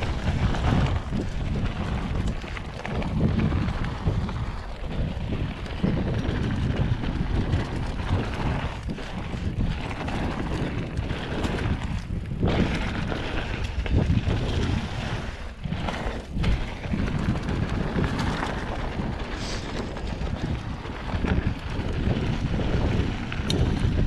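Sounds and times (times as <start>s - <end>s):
bike tyres crunching on gravel: 0.0s - 24.0s
wind buffeting microphone: 0.0s - 24.0s.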